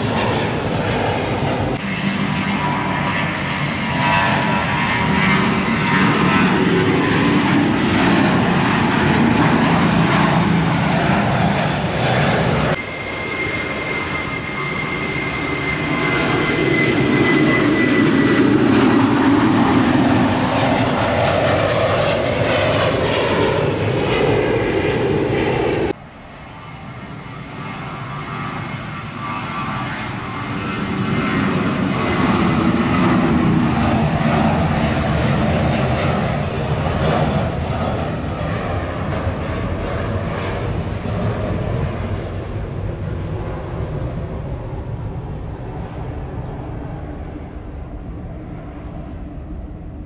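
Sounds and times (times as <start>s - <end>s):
airliner engines roaring: 0.0s - 50.0s.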